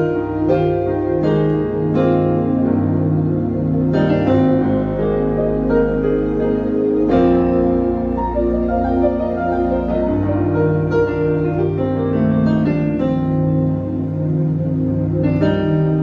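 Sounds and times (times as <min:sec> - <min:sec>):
held low bass: 0:00.0 - 0:16.0
keyboard chords: 0:00.0 - 0:16.0.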